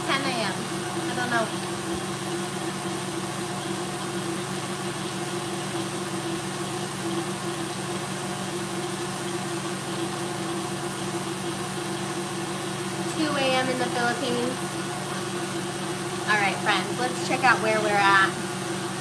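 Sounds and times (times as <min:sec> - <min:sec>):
stand mixer motor hum: 0:00.0 - 0:19.0.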